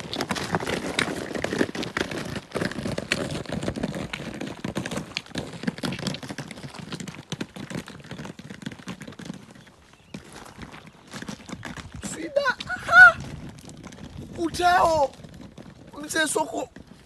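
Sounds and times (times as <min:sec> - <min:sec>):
footsteps crunching on loose rock: 0:00.0 - 0:17.0.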